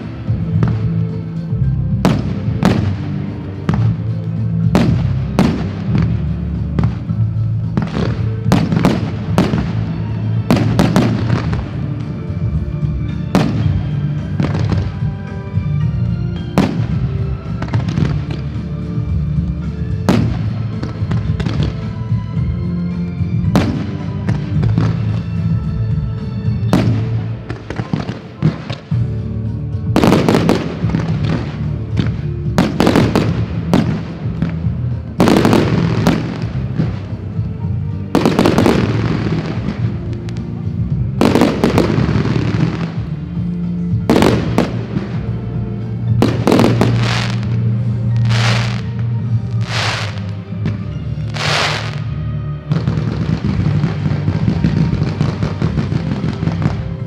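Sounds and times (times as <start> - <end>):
fireworks exploding and crackling: 0.0 - 57.0
music: 0.0 - 57.0.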